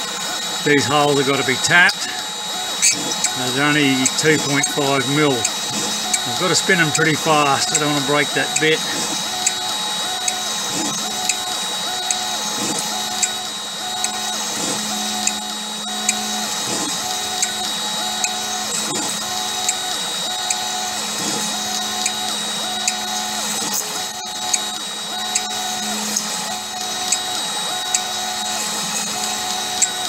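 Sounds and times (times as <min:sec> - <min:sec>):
drill peck ticks: 0:00.0 - 0:30.0
spindle high whine: 0:00.0 - 0:30.0.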